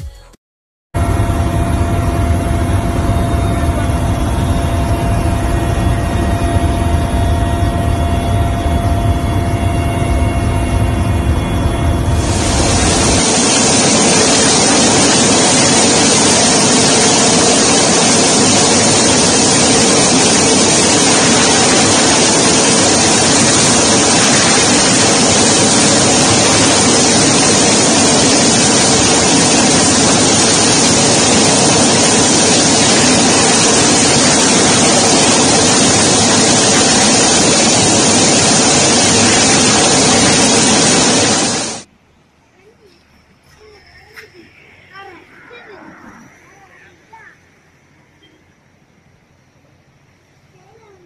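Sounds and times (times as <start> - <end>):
helicopter hovering: 1.0 - 41.9, 42.6 - 48.3.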